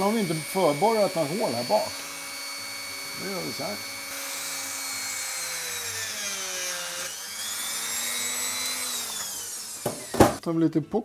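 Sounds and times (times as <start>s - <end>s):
rotary tool drilling wood: 0.0s - 10.4s.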